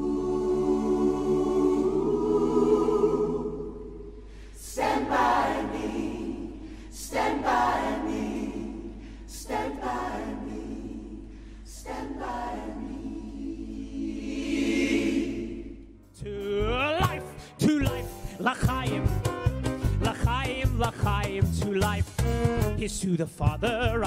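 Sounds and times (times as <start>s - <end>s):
gospel choir singing: 0.0s - 20.2s.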